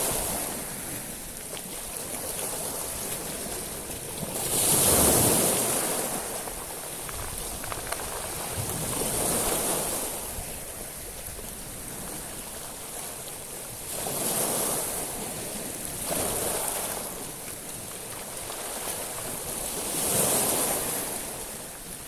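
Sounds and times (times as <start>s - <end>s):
waves washing on shingle: 0.0s - 22.0s.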